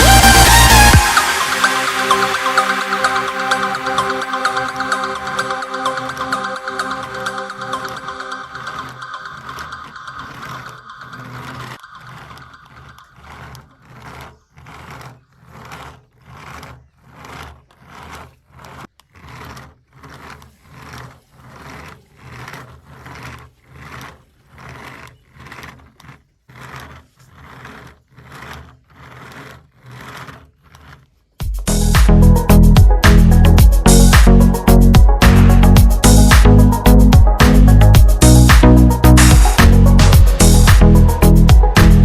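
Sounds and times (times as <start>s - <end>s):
toy car motor whirring in pulses: 0.0s - 42.0s.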